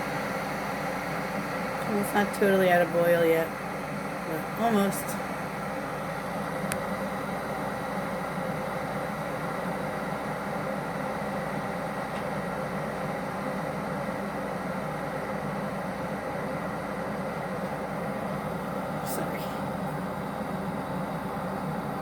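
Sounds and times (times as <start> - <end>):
electric kettle boiling: 0.0 - 22.0.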